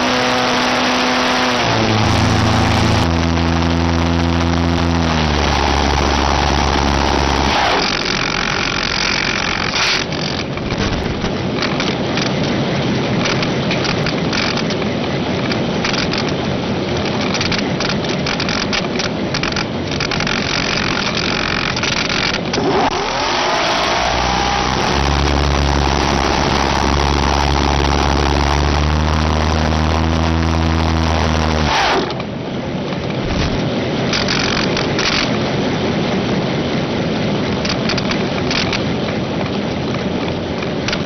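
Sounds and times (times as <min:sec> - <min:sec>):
vehicle engine whine and drone: 0:00.0 - 0:41.0.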